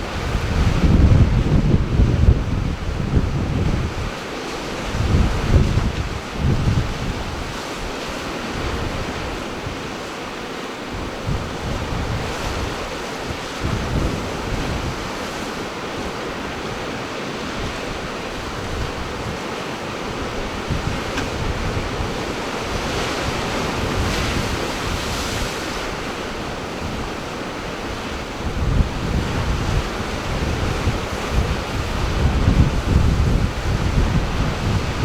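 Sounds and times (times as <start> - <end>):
ocean surf washing in: 0.0 - 35.0
wind buffeting microphone: 0.0 - 35.0.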